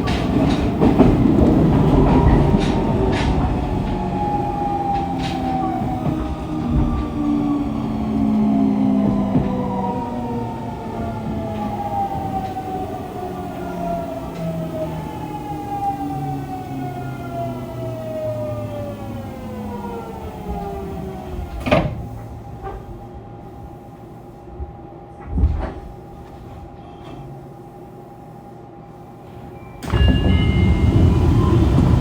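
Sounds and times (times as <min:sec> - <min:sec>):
train inverter whining: 0:00.0 - 0:24.0, 0:29.2 - 0:32.0.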